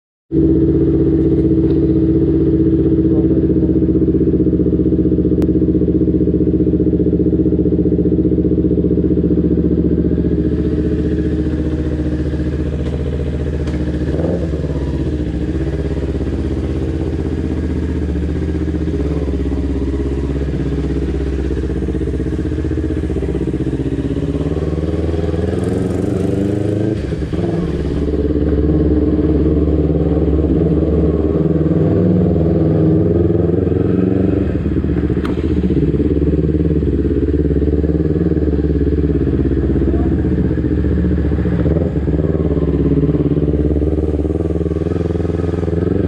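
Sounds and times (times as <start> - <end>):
motorcycle engine idling and pulling away: 0.3 - 46.0.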